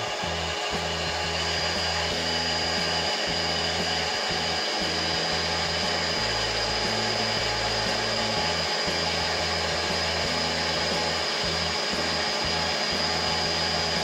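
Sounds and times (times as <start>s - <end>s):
lens edging machine whining: 0.0s - 14.0s.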